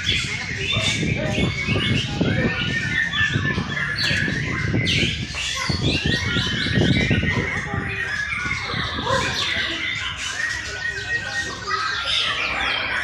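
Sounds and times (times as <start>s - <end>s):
birds singing whistled phrases: 0.0s - 13.0s.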